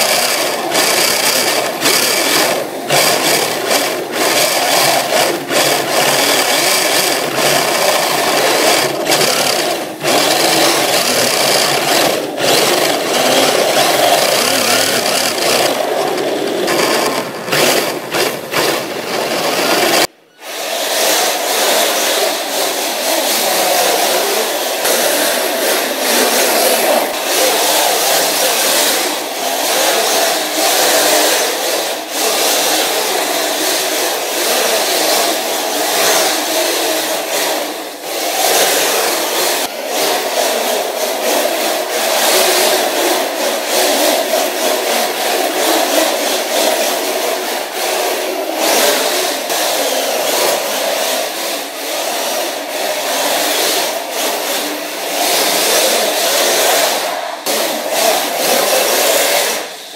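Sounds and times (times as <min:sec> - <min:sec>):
small motor whirring: 0:00.0 - 0:54.6
tyres sliding on floor: 0:00.0 - 0:59.9.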